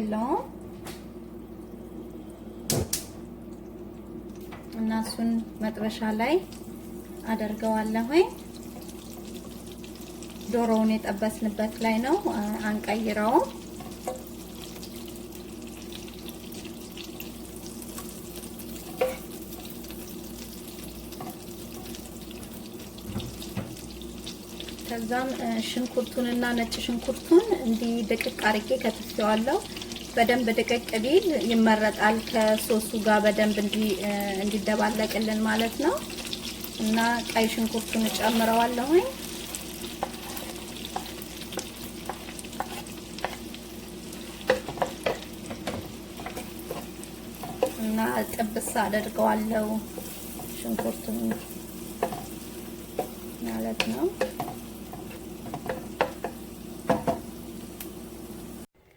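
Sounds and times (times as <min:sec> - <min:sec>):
butter sizzling in a frying pan: 0:04.9 - 0:58.7.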